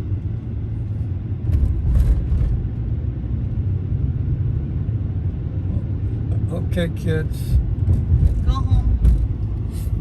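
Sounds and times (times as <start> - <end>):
car road noise: 0.0 - 10.0.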